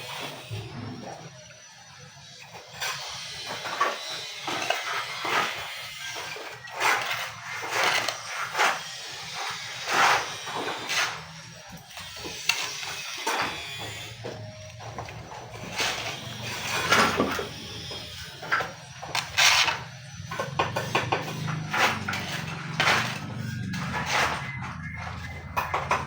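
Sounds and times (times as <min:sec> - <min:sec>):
shovel scraping through mortar: 0:02.8 - 0:25.0.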